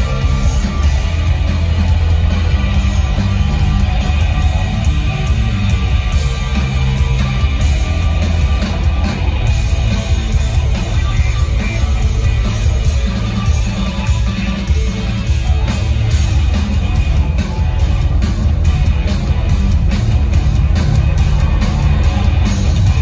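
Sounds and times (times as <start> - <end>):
live hard rock band: 0.0 - 23.0.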